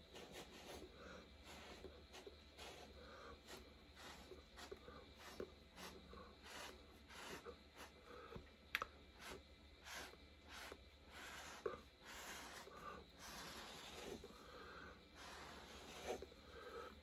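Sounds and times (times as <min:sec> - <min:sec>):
stick scraping through wet paint: 0:00.1 - 0:07.9, 0:09.2 - 0:14.4, 0:15.2 - 0:16.4.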